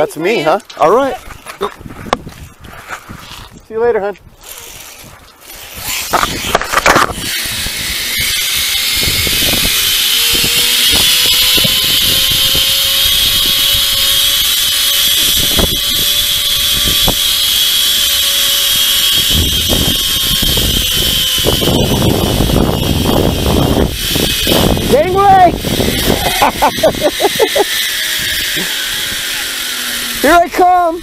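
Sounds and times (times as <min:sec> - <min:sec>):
rumbling wind noise: 0:01.1 - 0:27.4
zipline pulleys whining on cable: 0:04.4 - 0:31.0.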